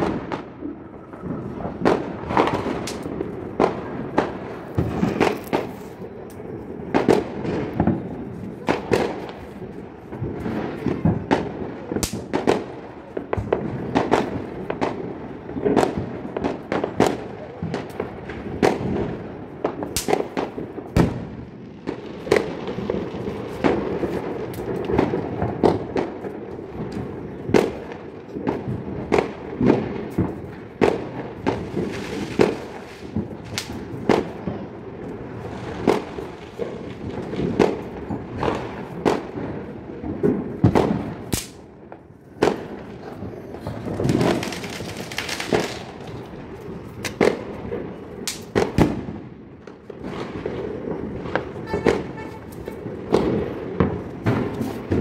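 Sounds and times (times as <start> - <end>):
background crackling: 0.0 - 55.0
firecrackers banging: 0.0 - 55.0.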